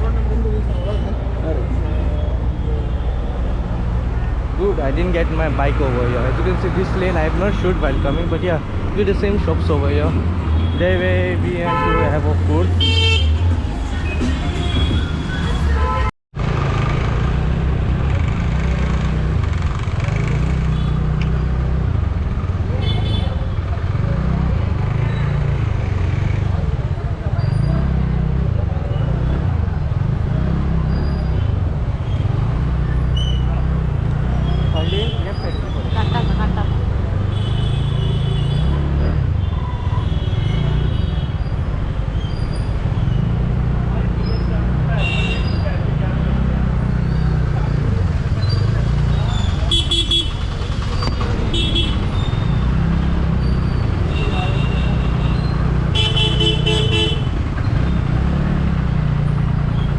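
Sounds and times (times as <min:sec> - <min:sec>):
vehicle engines running: 0:00.0 - 0:15.8, 0:16.4 - 0:59.9
road traffic rumble: 0:00.0 - 0:59.9.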